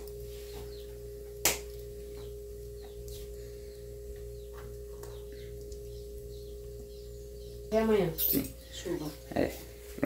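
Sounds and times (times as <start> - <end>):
small birds chirping: 0.0 - 1.2, 1.9 - 9.8
steady low hum: 0.0 - 10.0.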